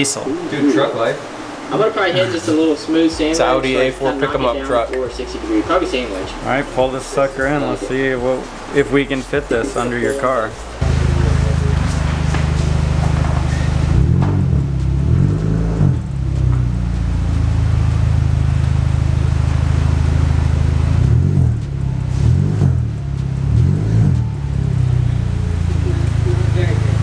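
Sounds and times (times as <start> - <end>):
car engine idling: 1.0 - 27.0.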